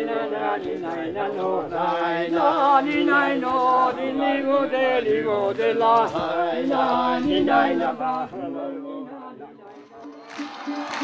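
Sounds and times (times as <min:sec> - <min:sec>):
men singing in harmony: 0:00.0 - 0:11.0.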